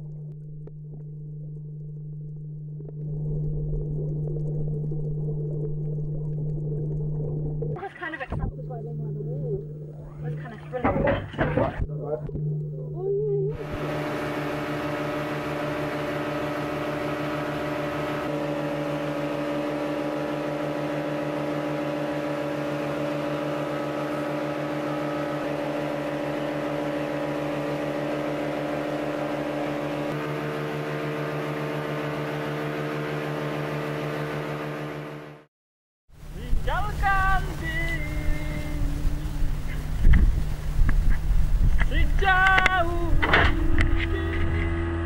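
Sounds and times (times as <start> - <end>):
boat engine droning: 0.0 - 35.5, 36.1 - 45.0.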